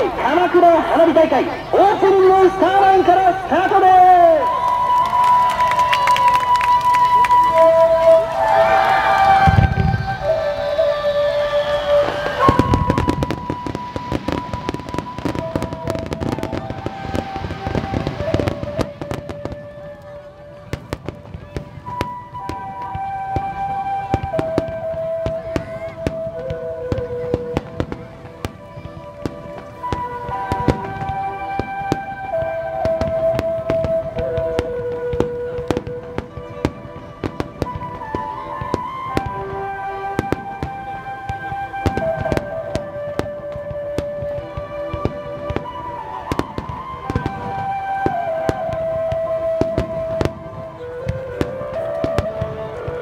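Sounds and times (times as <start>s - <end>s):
music with long held notes: 0.0s - 53.0s
fireworks popping and crackling: 4.4s - 53.0s.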